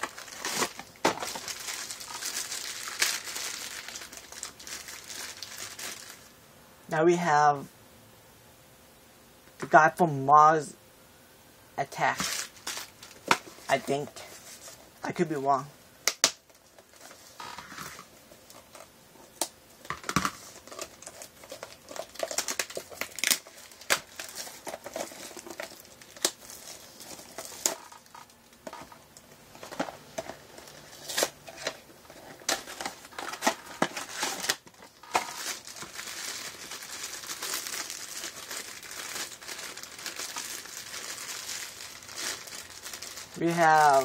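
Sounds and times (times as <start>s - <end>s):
foil wrapper crinkling: 0.0s - 6.3s, 12.1s - 14.9s, 16.1s - 44.0s.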